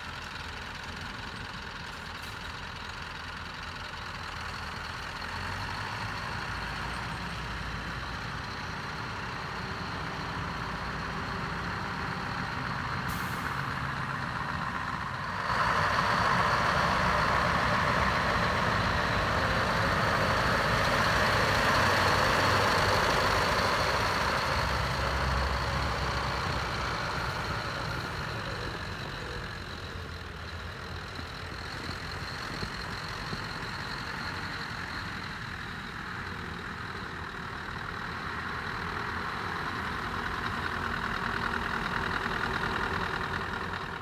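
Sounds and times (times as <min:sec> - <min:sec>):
diesel truck engine low revs: 0:00.0 - 0:44.0.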